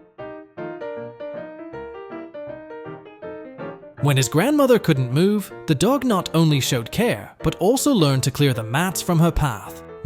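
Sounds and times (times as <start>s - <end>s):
keyboard melody of quick notes: 0.0s - 10.0s.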